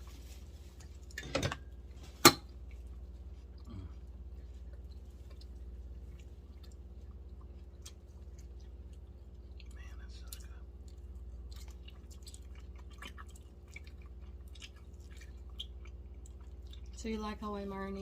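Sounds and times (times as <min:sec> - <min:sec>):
people chewing and eating: 0:00.0 - 0:17.0
steady low hum: 0:00.0 - 0:18.0.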